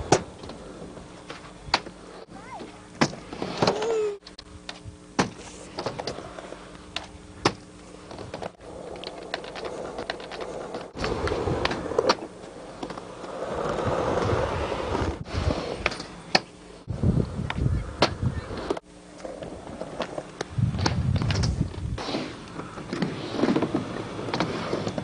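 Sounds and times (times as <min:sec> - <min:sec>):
skateboard wheels rolling on ramp: 0:00.0 - 0:25.0.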